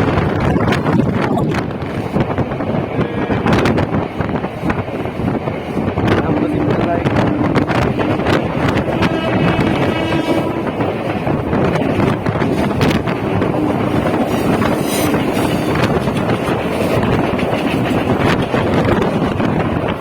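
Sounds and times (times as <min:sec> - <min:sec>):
train rumbling past: 0:00.0 - 0:20.0
wind buffeting microphone: 0:00.0 - 0:20.0
train wheels knocking: 0:00.1 - 0:20.0.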